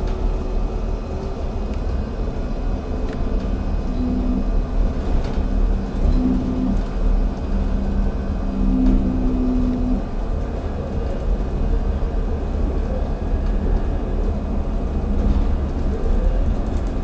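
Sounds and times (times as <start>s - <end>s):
bus engine and road rumble: 0.0s - 17.0s
low steady hum: 0.0s - 17.0s.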